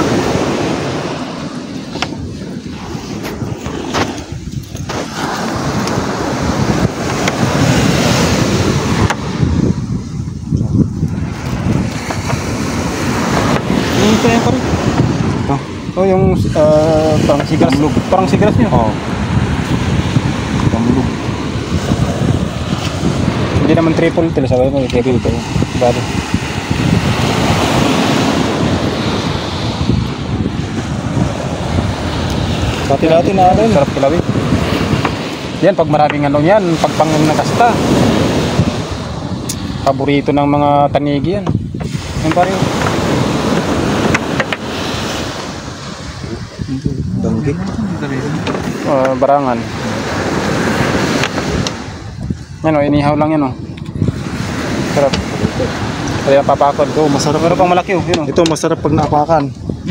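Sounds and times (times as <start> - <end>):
sea noise: 0.0 - 59.9
wind buffeting microphone: 0.0 - 59.9.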